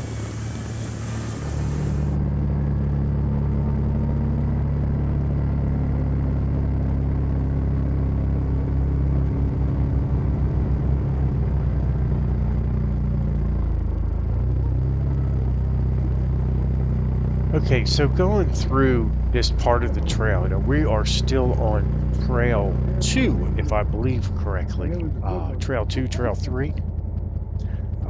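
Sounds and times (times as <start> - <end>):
utility vehicle engine droning: 0.0 - 28.0.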